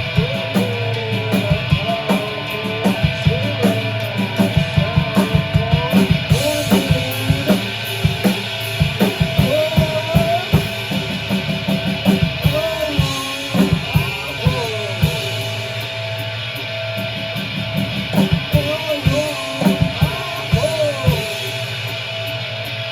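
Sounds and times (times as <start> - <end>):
rock band playing live: 0.0 - 22.9.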